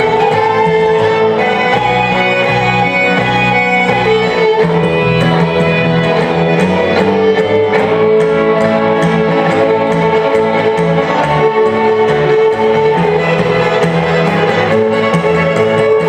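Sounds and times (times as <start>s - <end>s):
electric guitar: 0.0s - 16.0s
fiddles bowing lively tune: 0.0s - 16.0s
upright bass: 0.0s - 16.0s.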